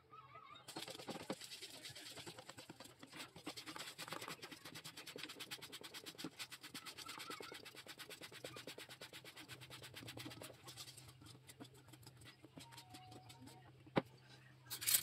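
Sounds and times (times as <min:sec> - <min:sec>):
whisk scraping in plastic bowl: 0:00.7 - 0:14.2.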